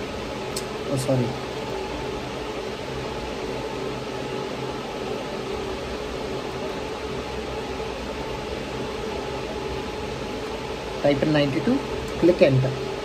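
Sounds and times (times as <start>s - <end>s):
electric fans whirring: 0.0s - 13.0s.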